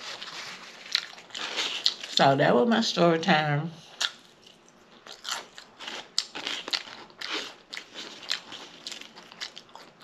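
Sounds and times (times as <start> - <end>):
crunchy chewing of chips: 0.0 - 2.2, 3.9 - 10.0.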